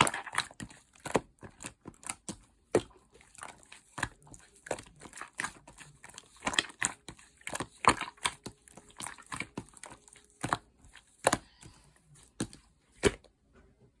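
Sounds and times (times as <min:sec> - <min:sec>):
slime squished by hand: 0:00.0 - 0:13.2.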